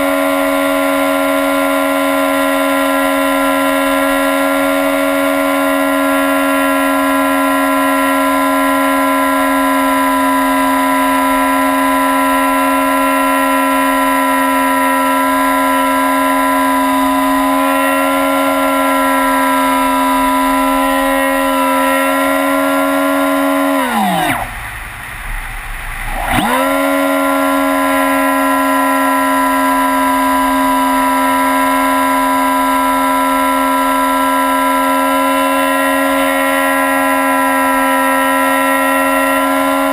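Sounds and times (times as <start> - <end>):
model airplane motor whining: 0.0 - 39.9.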